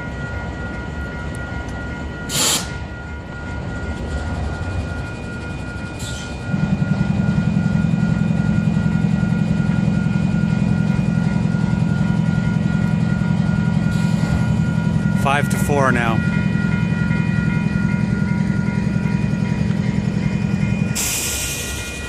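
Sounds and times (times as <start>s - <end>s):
diesel locomotive drone: 0.0s - 22.0s
level crossing warning bell: 0.0s - 22.0s.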